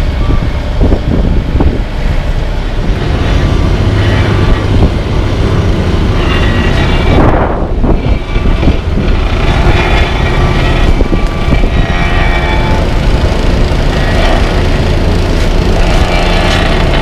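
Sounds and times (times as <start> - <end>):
diesel truck engine running: 0.0 - 17.0
wind buffeting microphone: 0.0 - 17.0.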